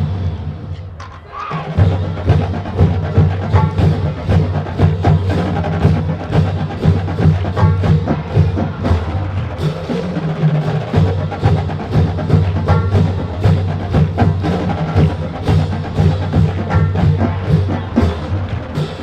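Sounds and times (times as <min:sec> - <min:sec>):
drumline beat: 0:00.0 - 0:19.0.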